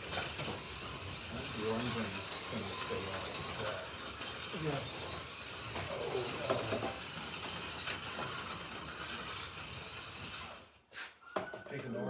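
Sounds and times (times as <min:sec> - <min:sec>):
slot cars electric motors hissing: 0:00.0 - 0:10.8.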